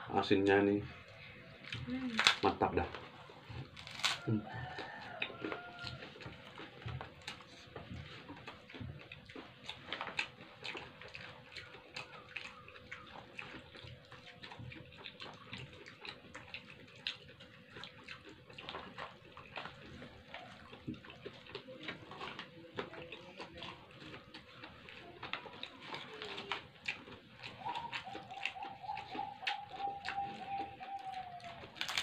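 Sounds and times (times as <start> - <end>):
wet chewing and lip smacks: 0.4 - 32.0.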